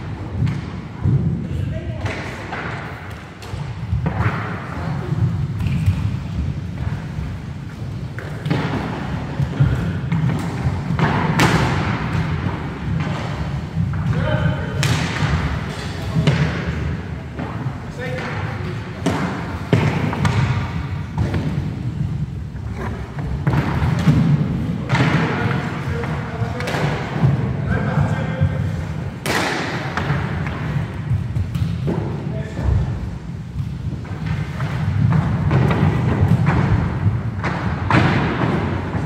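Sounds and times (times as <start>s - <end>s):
players' voices echoing: 0.0s - 39.0s
skate wheels rumbling on wood: 0.0s - 39.0s
hockey sticks clacking: 2.0s - 32.8s, 33.6s - 39.0s.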